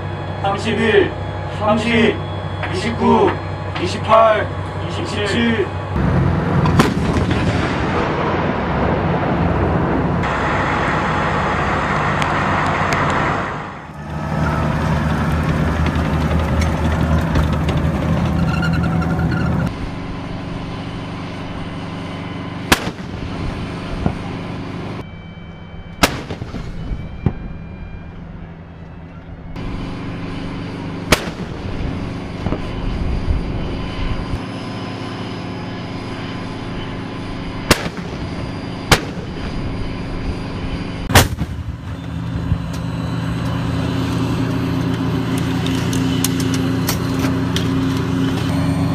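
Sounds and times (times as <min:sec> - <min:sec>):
heavy vehicle engines running: 0:00.0 - 0:48.9.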